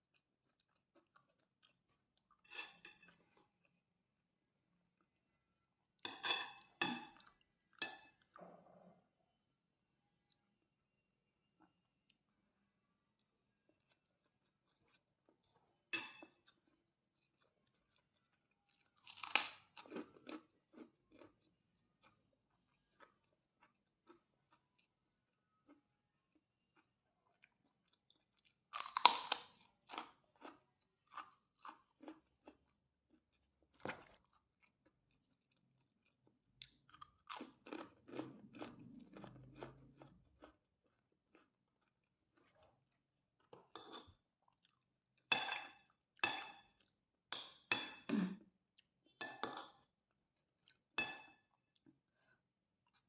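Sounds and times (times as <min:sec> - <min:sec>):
person chewing crunchy crackers: 0:00.0 - 0:04.0, 0:13.2 - 0:47.8, 0:48.5 - 0:53.0.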